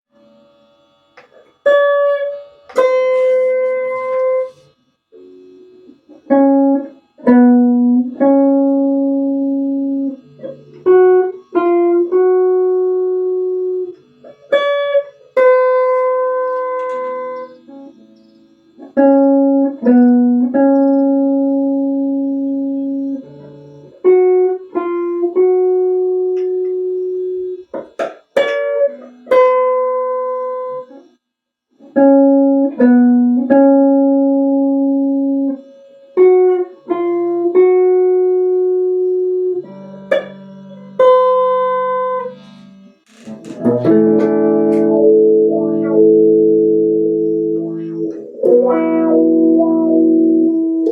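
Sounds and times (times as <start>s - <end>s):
plucked string instrument melody: 0.1s - 31.0s, 31.7s - 50.9s.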